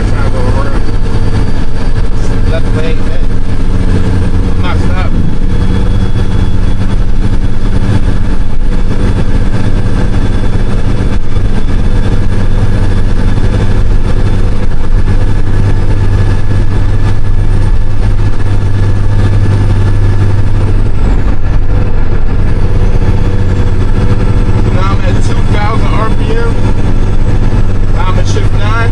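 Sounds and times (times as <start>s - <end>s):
truck diesel engine running: 0.0s - 28.9s.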